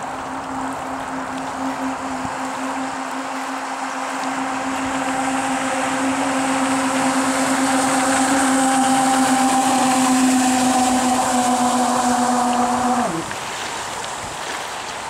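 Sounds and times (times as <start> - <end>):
electric jet drive whine: 0.0 - 13.4.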